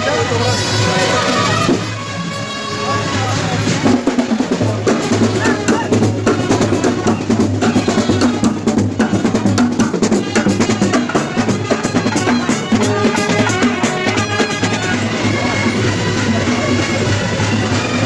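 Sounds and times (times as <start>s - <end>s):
procession drumming: 3.4s - 18.0s.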